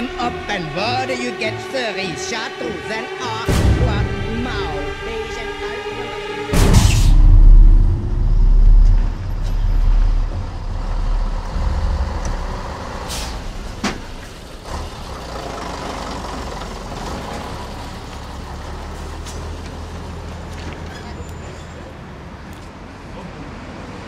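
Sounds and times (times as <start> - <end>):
heavy vehicle engine rumble: 0.0 - 2.8, 3.5 - 24.0
low traffic hum: 0.0 - 24.0.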